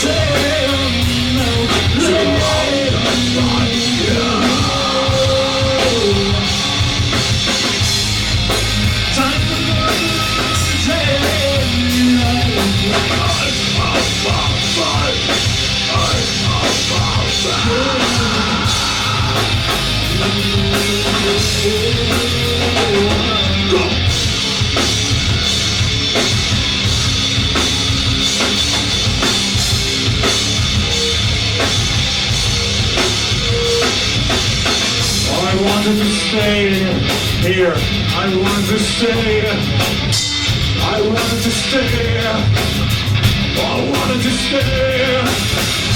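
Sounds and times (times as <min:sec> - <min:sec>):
distorted electric guitar: 0:00.0 - 0:45.9
drum kit: 0:00.0 - 0:45.9.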